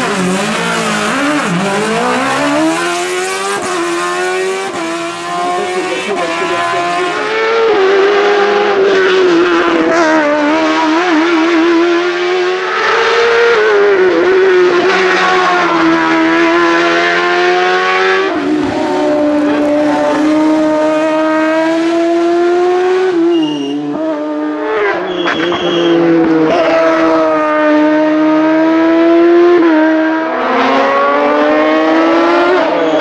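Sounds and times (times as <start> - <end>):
racing car engines at high revs: 0.0 - 33.0.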